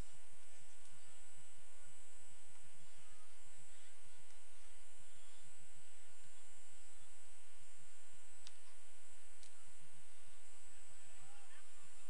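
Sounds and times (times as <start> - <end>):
electrical hum and buzz: 0.0 - 12.0.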